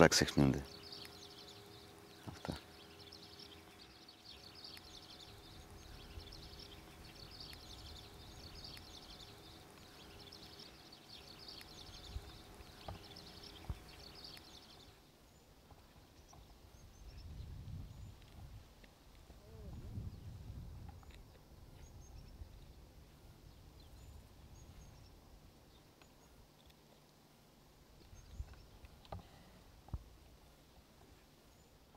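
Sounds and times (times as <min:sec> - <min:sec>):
small birds chirping: 0:00.0 - 0:27.2, 0:27.9 - 0:31.9
faint steady hum: 0:00.0 - 0:31.9.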